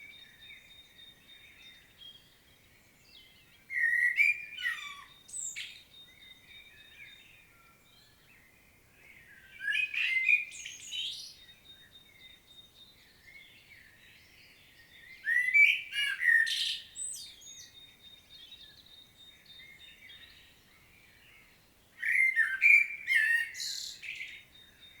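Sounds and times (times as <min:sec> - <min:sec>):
blackbird singing: 0:00.0 - 0:25.0
faint bird chirps: 0:00.0 - 0:25.0.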